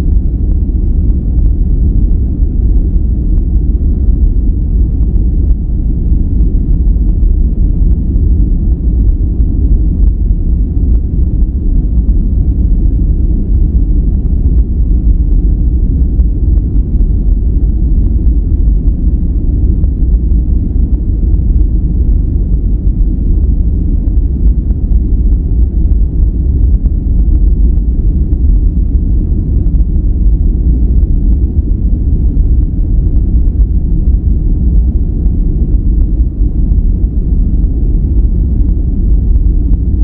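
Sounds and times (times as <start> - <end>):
low even rumble noise: 0.0 - 40.0.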